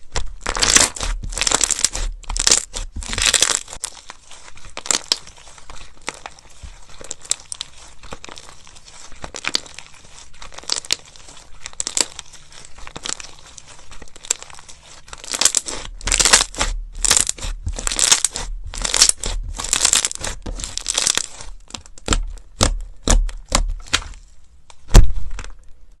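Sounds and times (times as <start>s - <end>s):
slime squelching by hand: 0.0s - 25.6s.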